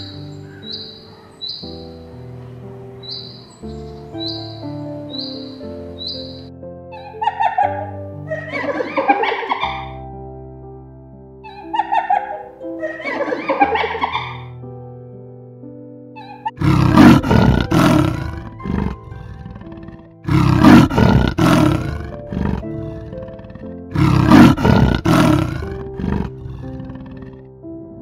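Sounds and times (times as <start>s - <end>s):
leopard calling: 0.0s - 2.2s, 3.0s - 10.0s, 11.4s - 14.6s, 16.2s - 27.6s
soft background music: 0.0s - 28.0s.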